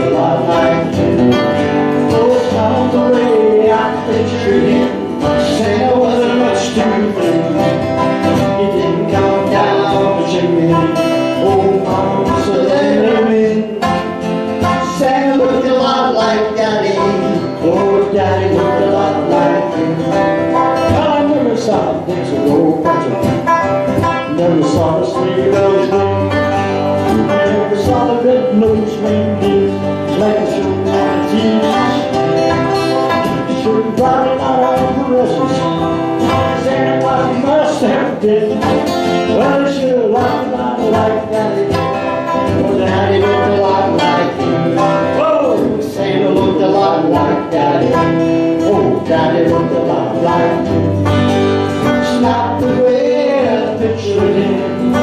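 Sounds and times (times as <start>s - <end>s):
country band on acoustic guitars: 0.0s - 55.0s.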